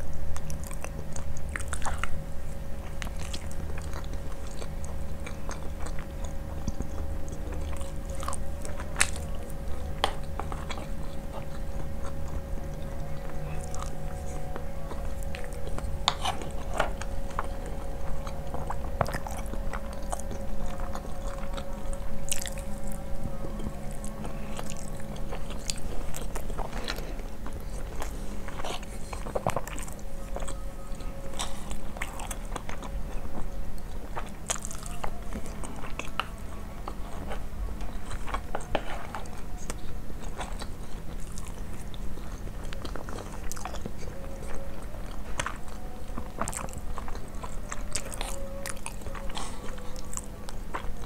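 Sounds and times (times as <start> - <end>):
person chewing food: 0.0 - 51.0
steady low hum: 0.0 - 51.0.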